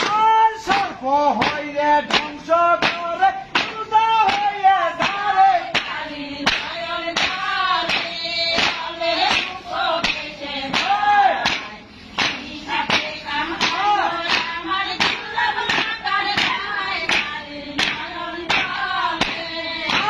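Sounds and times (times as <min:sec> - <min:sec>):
beaters striking roof: 0:00.0 - 0:20.0
group of voices singing: 0:00.0 - 0:20.0.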